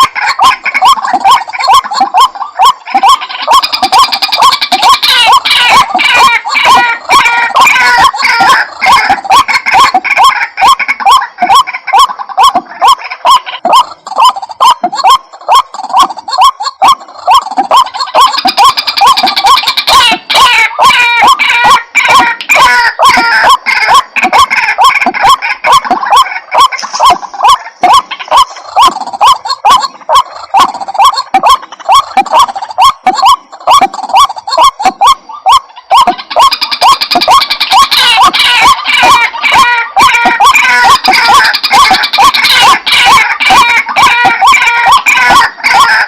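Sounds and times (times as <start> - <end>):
bird croaking calls: 0.0 - 46.0.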